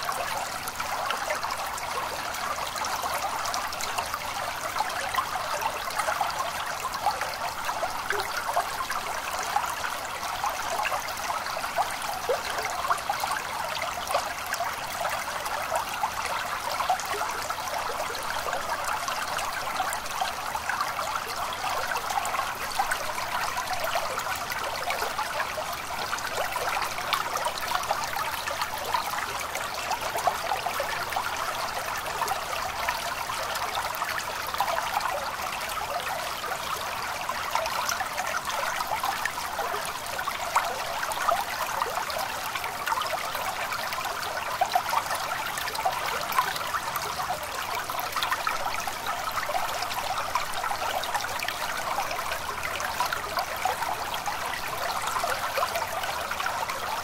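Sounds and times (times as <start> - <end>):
stream of water flowing: 0.0 - 57.0.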